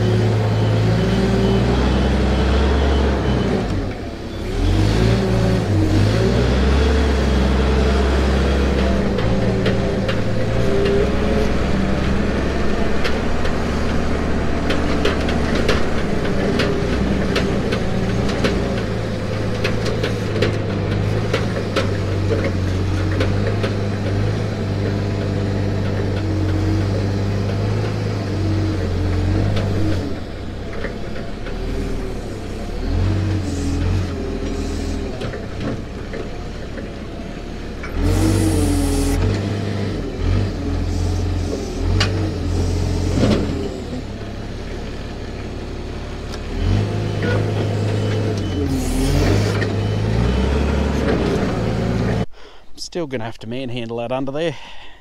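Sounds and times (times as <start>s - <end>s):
forklift engine running: 0.0s - 52.6s.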